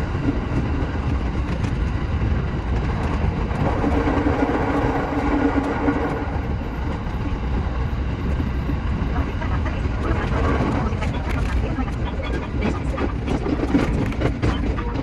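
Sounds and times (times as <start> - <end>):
steady hum: 0.0 - 15.0
train rumble and rail noise: 0.0 - 15.0.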